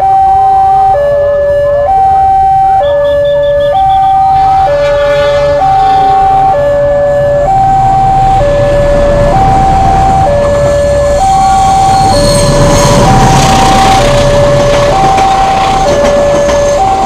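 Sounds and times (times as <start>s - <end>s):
two-tone level crossing alarm: 0.0s - 17.0s
passing train rumble: 3.2s - 17.0s.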